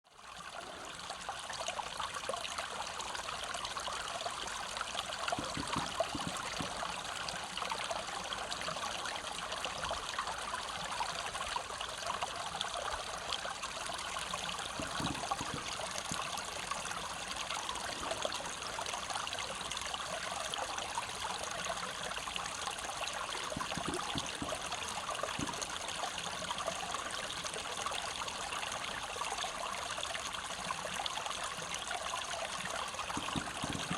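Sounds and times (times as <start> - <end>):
mountain stream babbling: 0.1 - 33.9.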